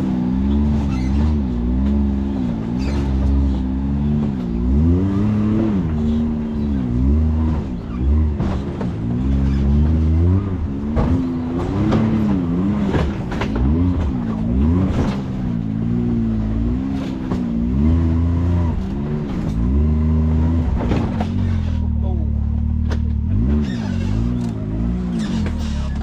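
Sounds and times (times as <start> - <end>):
utility vehicle engine revving: 0.0 - 26.0.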